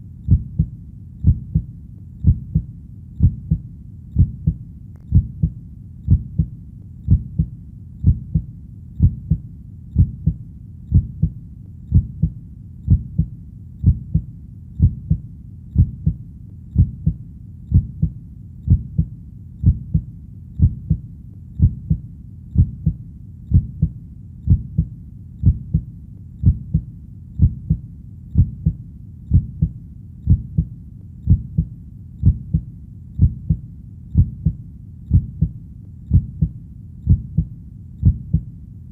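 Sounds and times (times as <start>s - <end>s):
heartbeat thumps: 0.0s - 38.5s.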